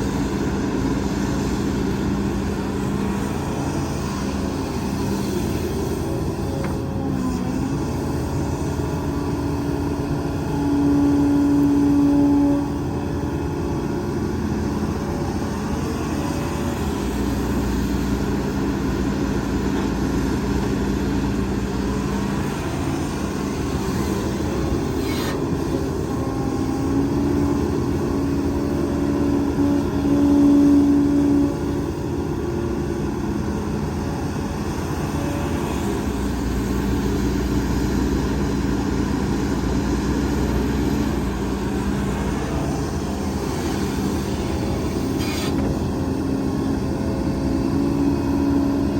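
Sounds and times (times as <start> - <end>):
heavy diesel machinery engines: 0.0 - 48.9.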